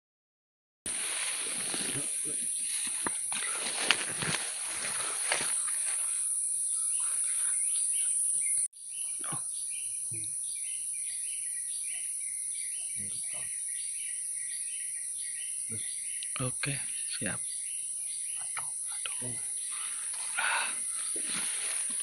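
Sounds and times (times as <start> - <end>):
high-pitched insect drone: 1.1 - 22.0.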